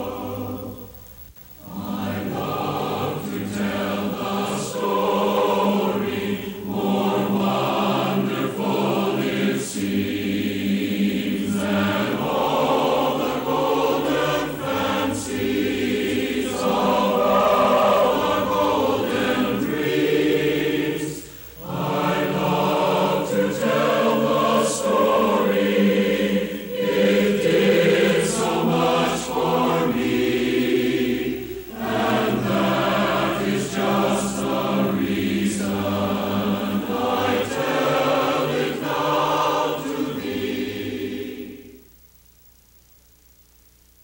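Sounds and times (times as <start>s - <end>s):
choir singing: 0.0s - 41.9s
faint steady hiss: 0.0s - 44.0s.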